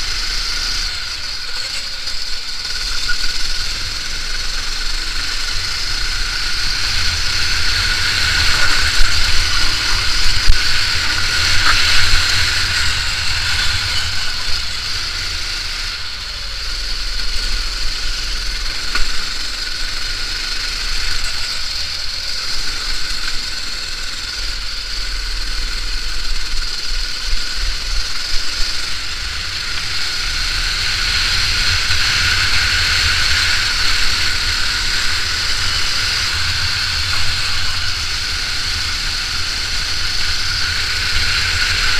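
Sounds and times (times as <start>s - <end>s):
go-kart engine racing: 0.0s - 41.9s.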